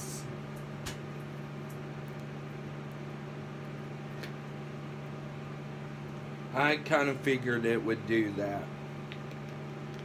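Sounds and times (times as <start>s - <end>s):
low hum of appliance: 0.0s - 10.0s.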